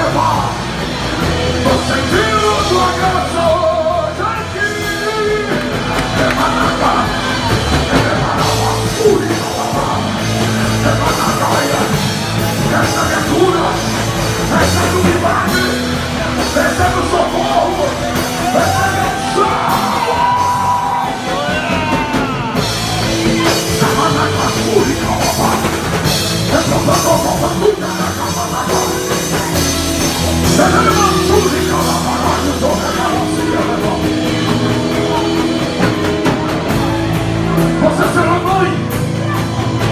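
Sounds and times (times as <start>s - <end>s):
live worship music: 0.0s - 39.9s
people singing and shouting: 0.0s - 39.9s.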